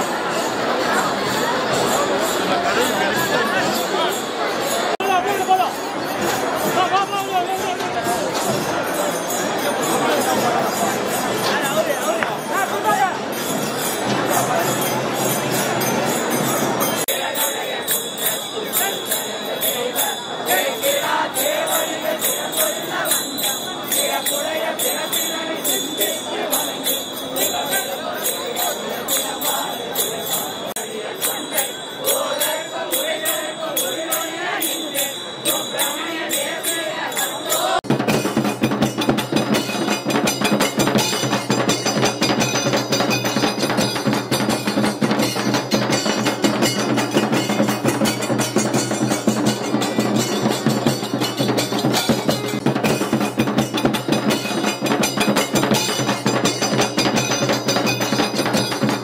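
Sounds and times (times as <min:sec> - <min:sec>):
bells and percussion music: 0:00.0 - 0:59.0
bells jingling rhythmically: 0:00.0 - 0:59.0.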